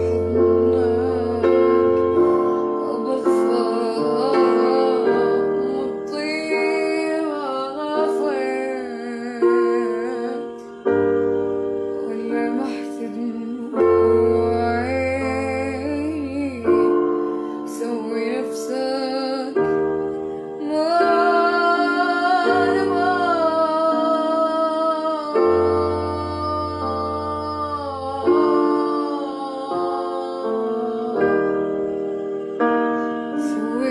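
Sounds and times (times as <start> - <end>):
electric piano chords: 0.0 - 33.9
woman singing: 0.0 - 33.9.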